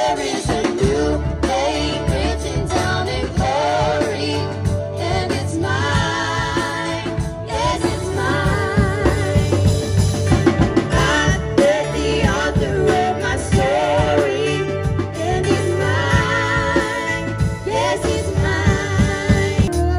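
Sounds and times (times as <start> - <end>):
girls singing: 0.0 - 9.8, 10.9 - 19.8
bass guitar: 0.0 - 19.9
drum kit: 0.0 - 19.9
electric keyboard: 0.0 - 19.9.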